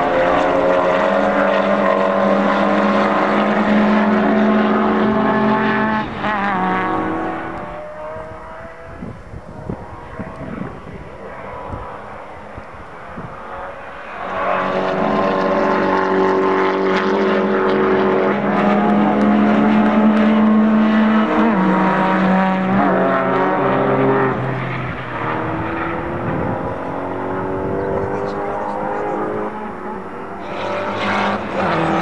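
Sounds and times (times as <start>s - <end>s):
racing car engines at high revs: 0.0s - 32.0s.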